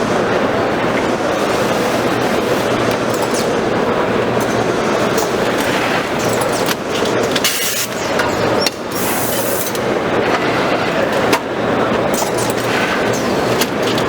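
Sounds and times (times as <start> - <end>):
bagging machine clattering: 0.3 - 14.0.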